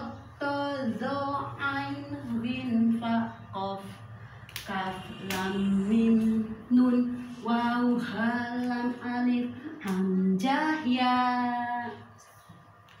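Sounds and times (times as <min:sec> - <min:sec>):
woman singing a chant: 0:00.0 - 0:12.5.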